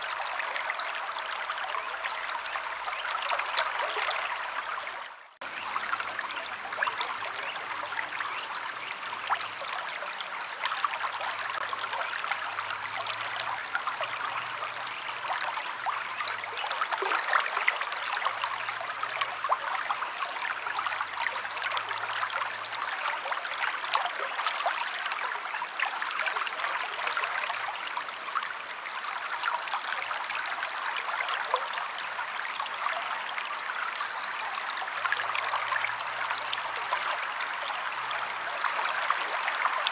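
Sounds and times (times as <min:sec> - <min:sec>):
river water flowing: 0:00.0 - 0:39.9
small splashes and trickles: 0:00.0 - 0:39.9.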